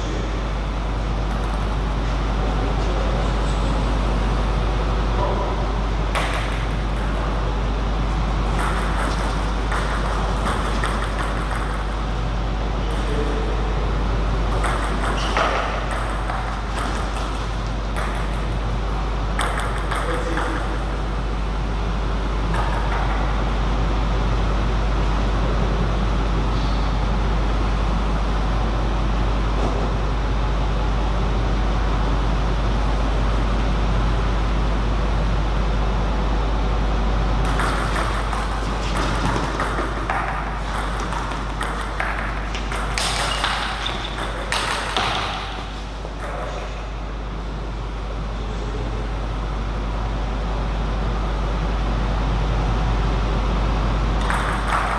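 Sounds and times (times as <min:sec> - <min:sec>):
steady background hum: 0:00.0 - 0:54.9.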